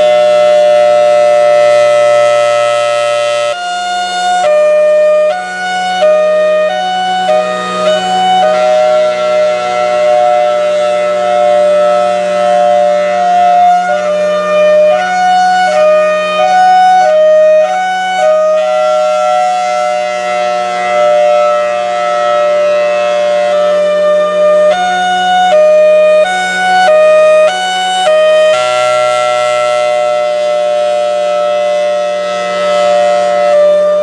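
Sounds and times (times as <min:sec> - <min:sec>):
rotating warning siren hi-lo: 0:00.0 - 0:34.0.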